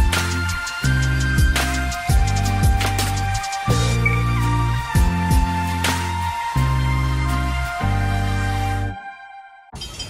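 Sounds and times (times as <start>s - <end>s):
deep bass notes: 0.0s - 9.0s
synth music with steady beat: 0.0s - 9.7s.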